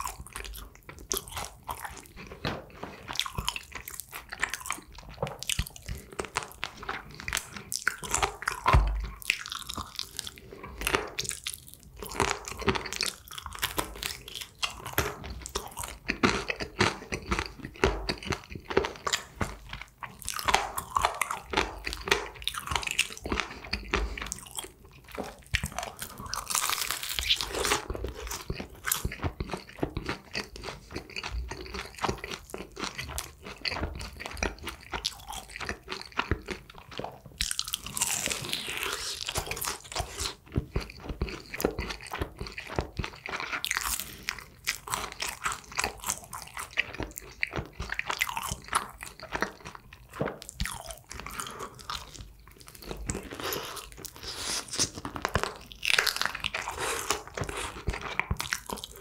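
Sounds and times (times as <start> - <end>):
crunching fried chicken bites: 0.0 - 59.0
wet chewing: 0.0 - 59.0.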